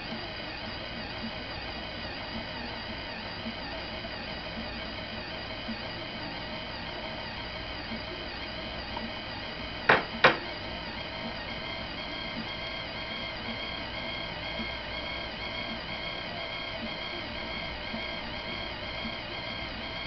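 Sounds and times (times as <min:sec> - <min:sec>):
machine whine: 0:00.0 - 0:20.0.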